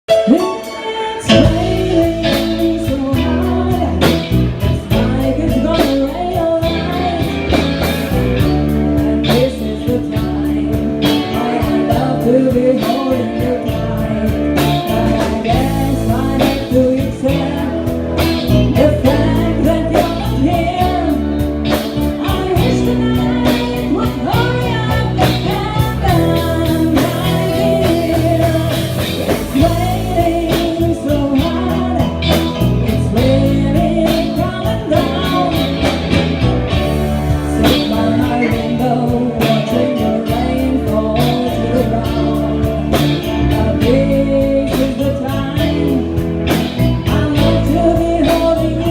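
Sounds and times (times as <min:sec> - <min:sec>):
blues-rock band playing: 0:00.1 - 0:48.9
person singing: 0:00.1 - 0:48.9.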